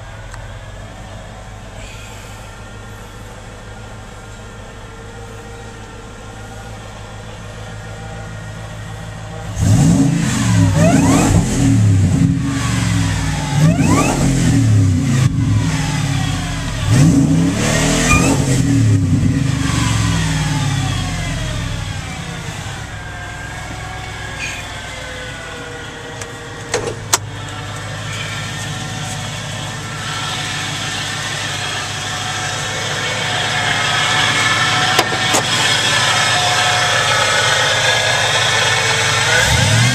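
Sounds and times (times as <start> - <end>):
engine idling and revving: 0.0 - 39.9.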